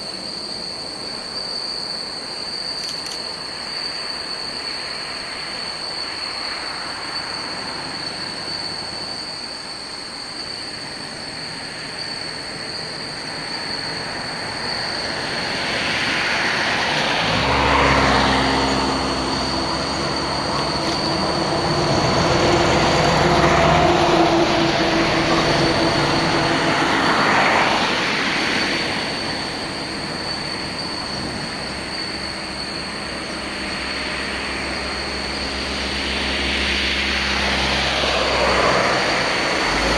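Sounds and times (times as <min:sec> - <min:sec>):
jet engines spooling up: 0:02.8 - 0:39.9.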